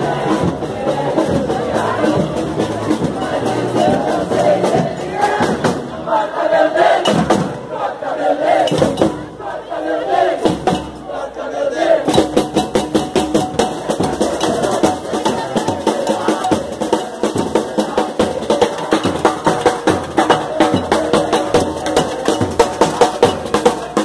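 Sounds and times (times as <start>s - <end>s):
crowd voices: 0.0s - 24.0s
street band drums: 0.0s - 24.0s.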